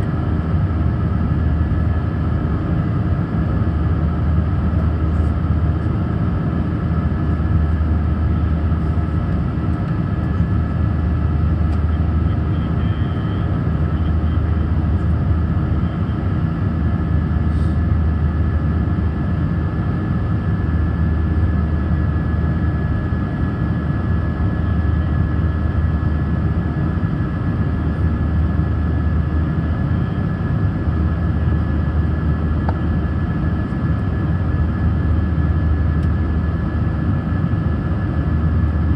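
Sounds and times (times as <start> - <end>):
jet engines heard inside cabin: 0.0 - 38.9.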